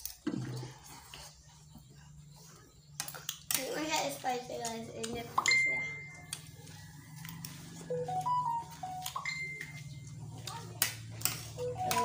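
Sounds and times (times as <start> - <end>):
quiet background music: 1.0 - 12.0.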